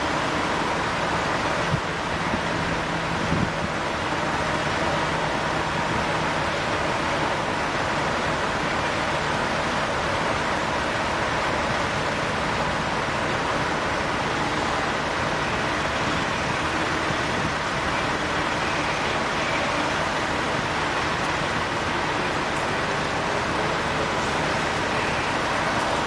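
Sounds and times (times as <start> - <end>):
faint steady whine: 0.0 - 26.0
steady wash of noise: 0.0 - 26.0.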